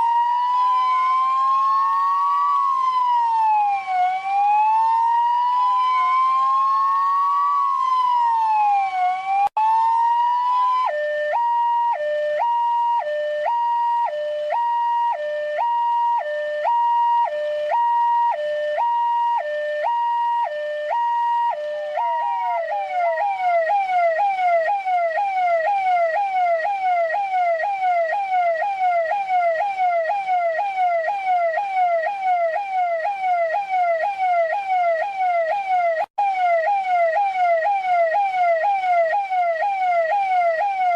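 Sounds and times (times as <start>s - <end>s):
police car electronic siren: 0.0s - 40.9s.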